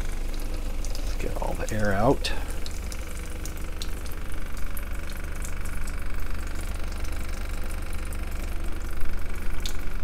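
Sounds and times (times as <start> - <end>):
water pump humming: 0.0 - 10.0
faucet running into steel sink: 0.3 - 10.0.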